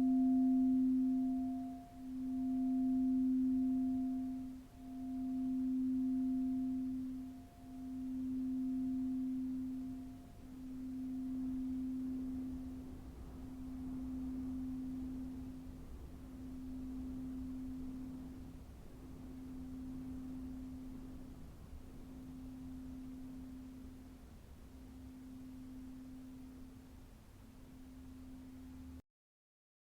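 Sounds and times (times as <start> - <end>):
singing bowl ringing: 0.0 - 27.0.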